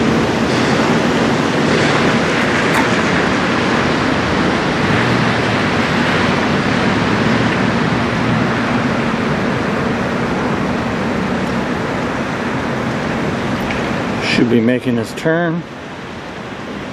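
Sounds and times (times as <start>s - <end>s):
waves: 0.0s - 16.9s
wind: 0.0s - 16.9s.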